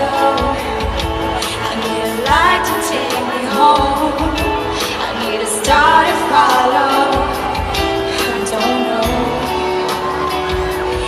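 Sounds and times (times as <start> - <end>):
band accompaniment: 0.0 - 11.0
woman singing pop ballad: 0.0 - 11.0.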